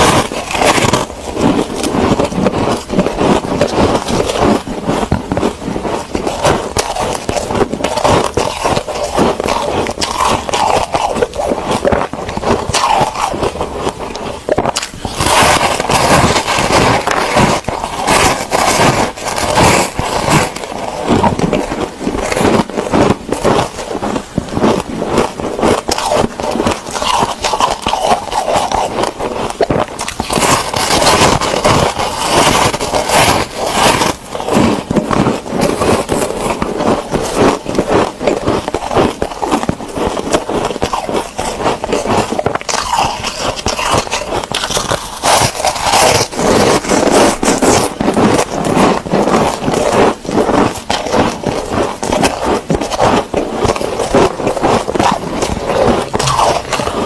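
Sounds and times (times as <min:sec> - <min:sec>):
ice crunching while chewed: 0:00.0 - 0:57.0.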